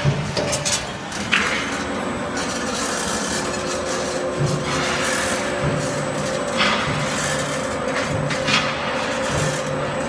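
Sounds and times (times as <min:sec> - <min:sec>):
machine mechanical hum: 0:00.0 - 0:10.0
metal rubbing through rollers: 0:00.0 - 0:10.0.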